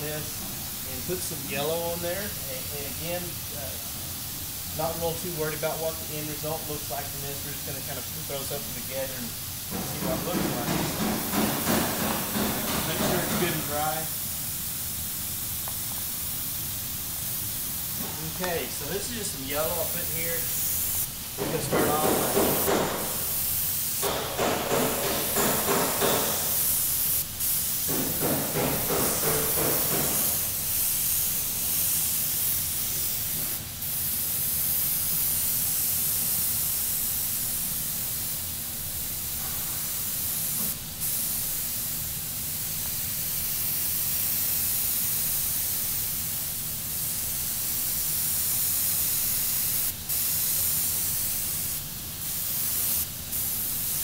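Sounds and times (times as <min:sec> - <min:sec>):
airbrush spraying hiss: 0:00.0 - 0:54.0.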